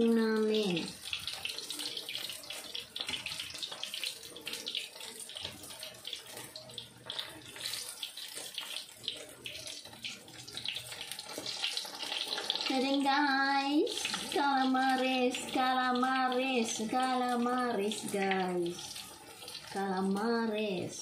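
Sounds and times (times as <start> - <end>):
hot oil sizzling and crackling: 0.0 - 21.0.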